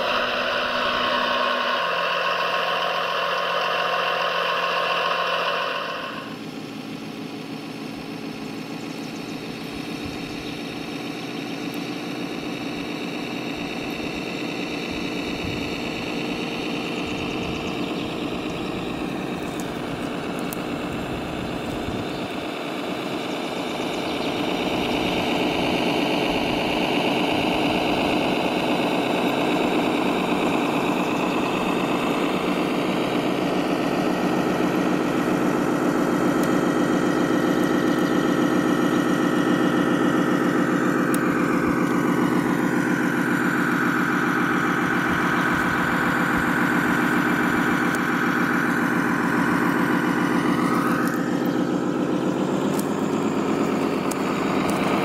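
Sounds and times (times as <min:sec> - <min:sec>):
simulated diesel truck engine: 0:00.0 - 0:55.0.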